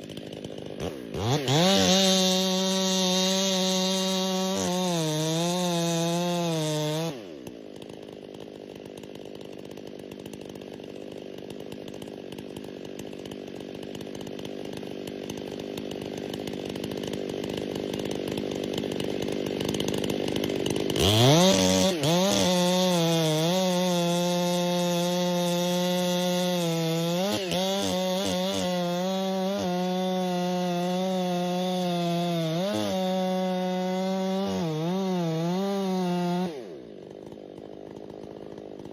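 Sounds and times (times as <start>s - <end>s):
two-stroke chainsaw revving: 0.0s - 38.9s.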